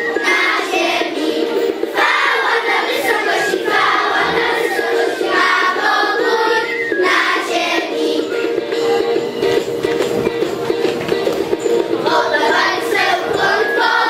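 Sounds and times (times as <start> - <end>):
children singing: 0.0 - 9.4, 11.8 - 14.0
instrumental backing music: 0.0 - 14.0.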